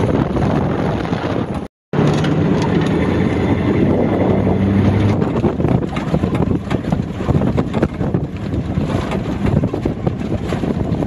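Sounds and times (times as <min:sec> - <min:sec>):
truck engine hum: 0:00.0 - 0:11.0
wind buffeting microphone: 0:00.0 - 0:11.0.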